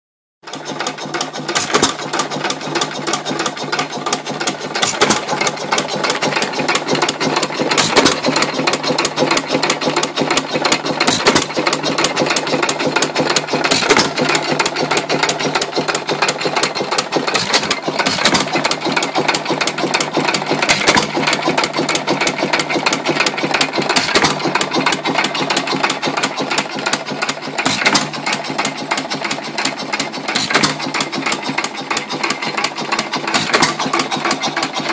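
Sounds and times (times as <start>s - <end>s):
engine firing beat: 0.4s - 34.9s
engine mechanical clatter: 0.4s - 34.9s.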